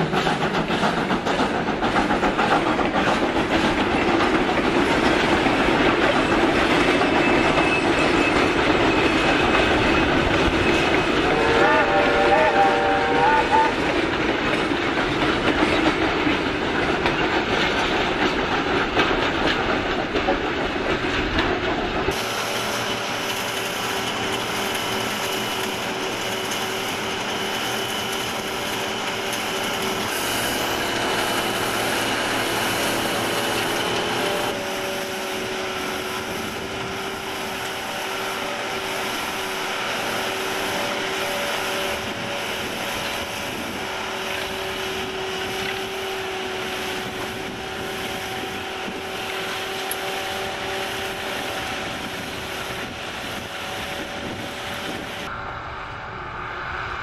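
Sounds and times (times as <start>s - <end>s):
train wagons rolling on track: 0.0s - 57.0s.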